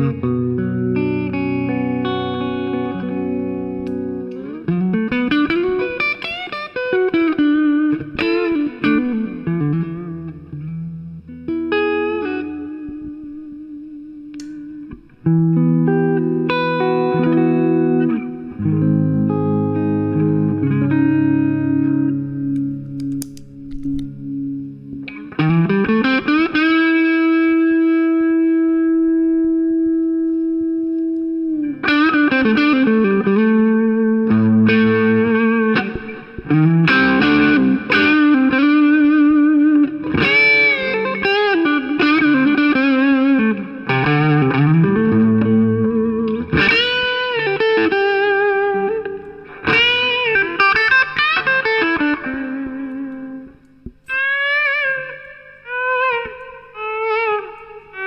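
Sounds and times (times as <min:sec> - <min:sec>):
electric guitar lead with bends: 0:00.0 - 0:58.0.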